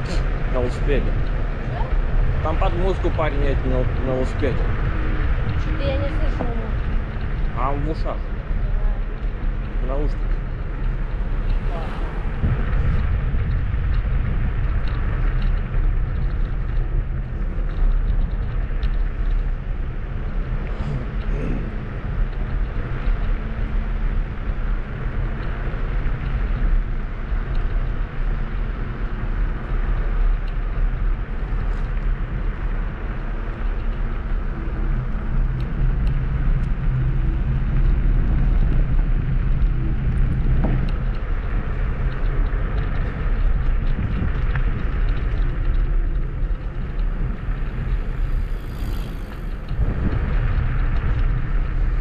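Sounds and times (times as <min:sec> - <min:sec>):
electric scooter riding: 0:00.0 - 0:52.0.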